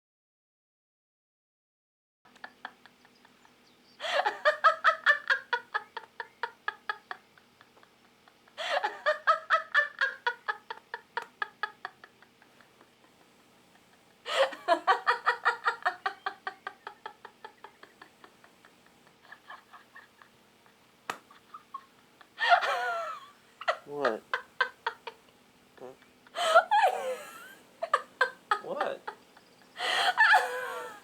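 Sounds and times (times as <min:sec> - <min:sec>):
faint steady hum: 0:02.3 - 0:31.0
rapid pulsing laughter: 0:02.4 - 0:25.2, 0:25.8 - 0:31.0.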